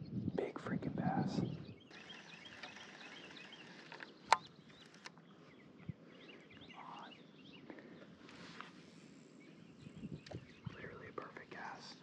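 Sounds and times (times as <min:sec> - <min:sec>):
birds chirping: 0:00.0 - 0:12.0
faint outdoor background noise: 0:00.0 - 0:12.0.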